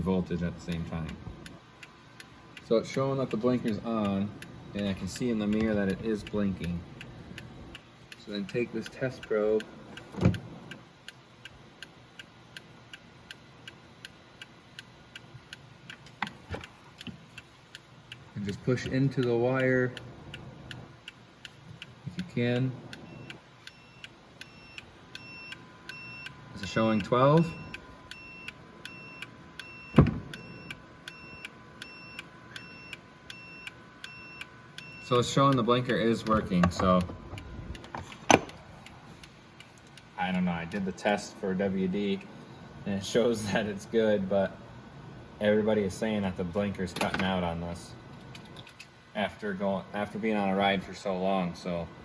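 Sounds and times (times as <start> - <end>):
turn signal flasher ticking: 0.0 - 43.6.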